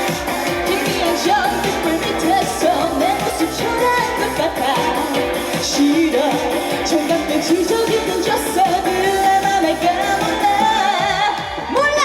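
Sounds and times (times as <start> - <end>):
live pop band music: 0.0 - 12.0.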